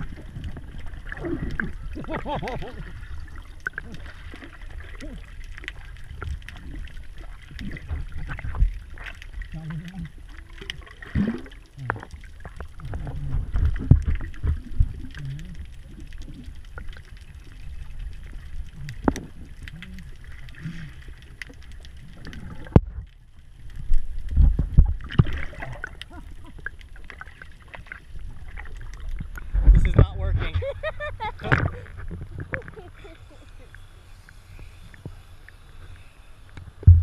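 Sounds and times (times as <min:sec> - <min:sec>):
low underwater rumble: 0:00.0 - 0:37.0
water sloshing and splashing: 0:00.0 - 0:37.0.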